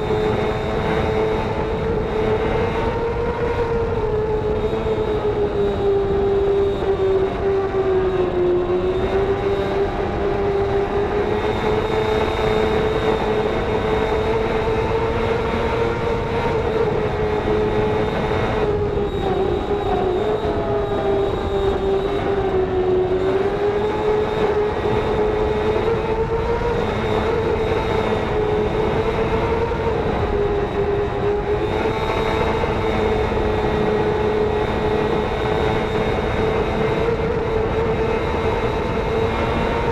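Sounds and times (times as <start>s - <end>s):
racing motorcycle engine revving: 0.0s - 39.9s
wind rush: 0.0s - 39.9s.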